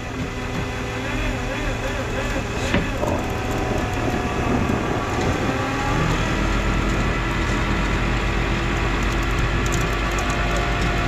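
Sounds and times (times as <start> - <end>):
truck engine rumbling: 0.0 - 11.0
steady whine: 1.4 - 11.0.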